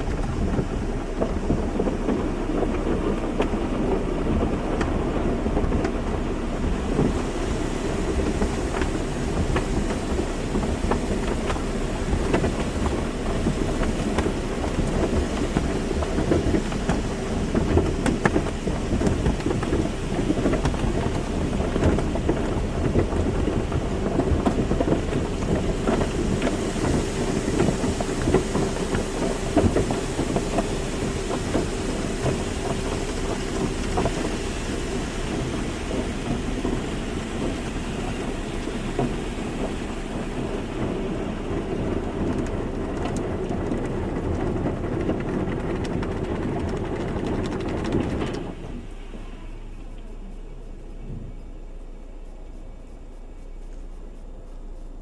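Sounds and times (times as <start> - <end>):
machine hum: 0.0 - 55.0
water spraying against car: 0.0 - 55.0.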